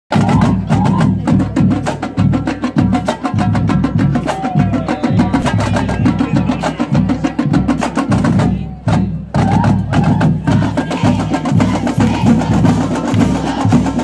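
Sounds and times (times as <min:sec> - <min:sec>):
snare and tenor drums: 0:00.1 - 0:14.0.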